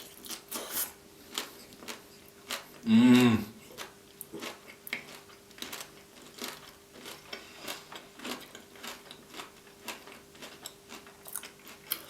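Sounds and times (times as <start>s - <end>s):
chewing crunchy taco: 0.0s - 12.0s.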